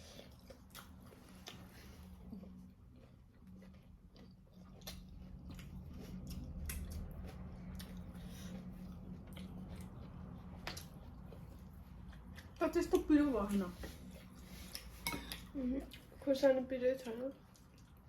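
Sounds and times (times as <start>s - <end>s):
close chewing: 0.0s - 18.0s
steady low hum: 0.0s - 18.0s.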